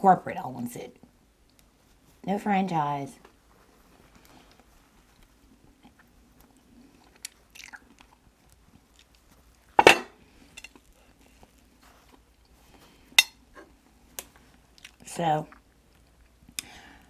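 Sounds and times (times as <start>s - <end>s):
soft chewing: 1.0s - 2.2s, 3.6s - 17.0s.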